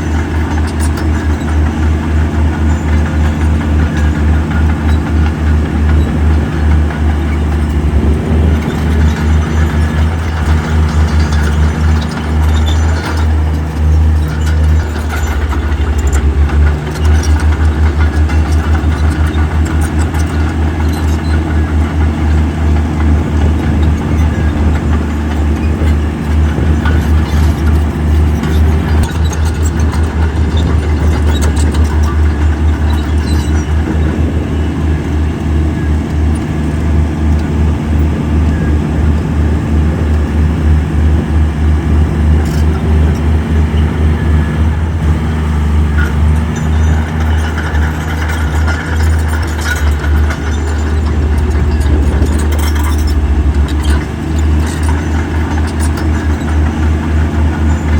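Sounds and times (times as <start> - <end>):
metallic clanks: 0.0 - 39.3, 42.2 - 57.9
heavy diesel engine under load: 0.0 - 57.9.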